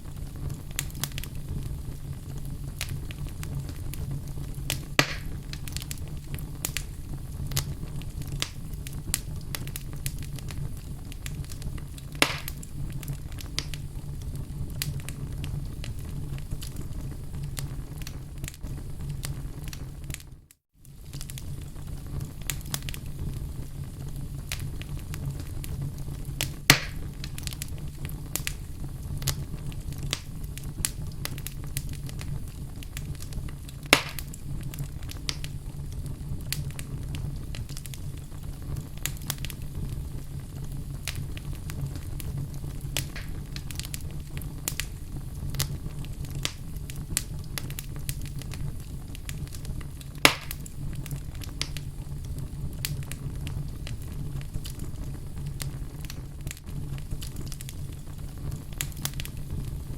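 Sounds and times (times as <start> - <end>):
loud fire pops: 0.0 - 59.9
wood fire crackling: 0.0 - 59.9.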